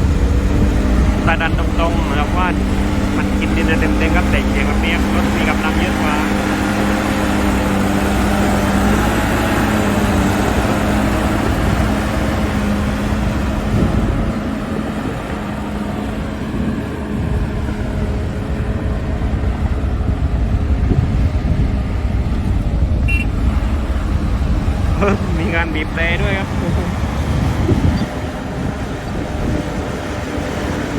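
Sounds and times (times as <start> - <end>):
bulldozer diesel engine under load: 0.0 - 30.9.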